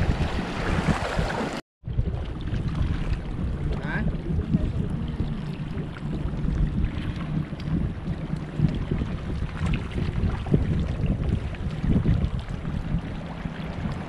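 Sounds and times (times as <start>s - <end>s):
seawater sloshing and splashing: 0.0s - 14.0s
wind buffeting microphone: 0.0s - 14.0s.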